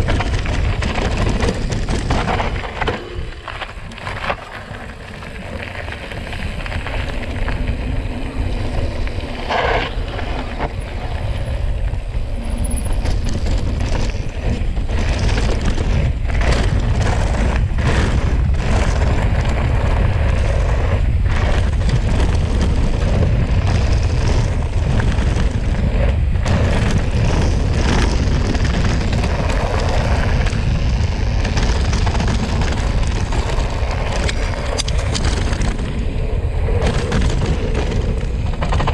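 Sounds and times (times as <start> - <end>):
mountain bike rattling on trail: 0.0 - 38.9
wind on microphone: 0.0 - 38.9.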